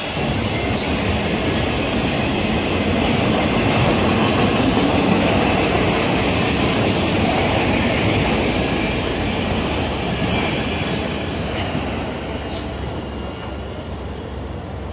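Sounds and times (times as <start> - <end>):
freight train rolling past: 0.0 - 14.9.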